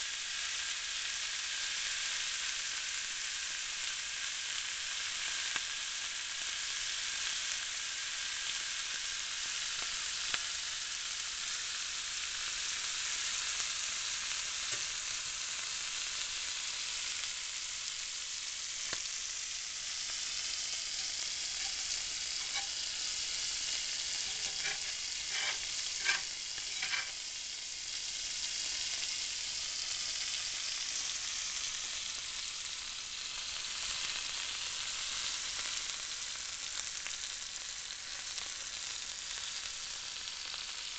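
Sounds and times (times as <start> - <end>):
steak sizzling in pan: 0.0 - 40.9.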